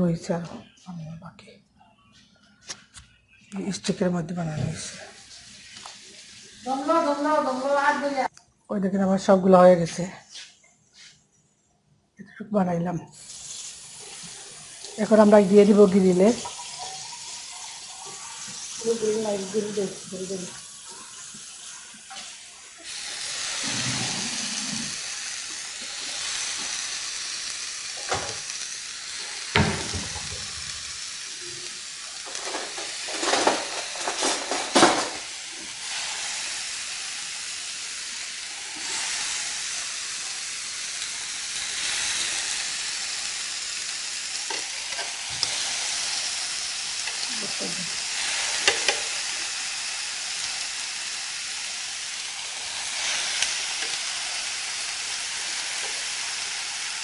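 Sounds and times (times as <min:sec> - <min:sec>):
kebab skewers sizzling on a griddle: 0:04.4 - 0:08.3, 0:13.2 - 0:57.0.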